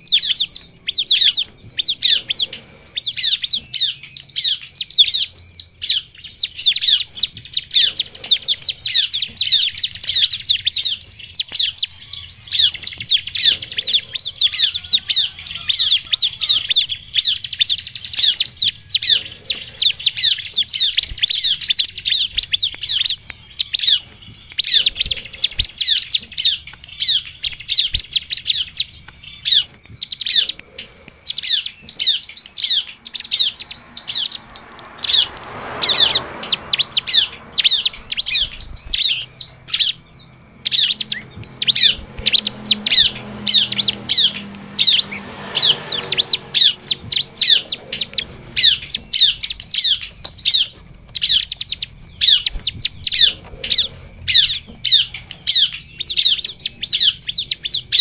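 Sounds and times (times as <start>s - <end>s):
bird singing sharp chirps: 0.0s - 58.0s.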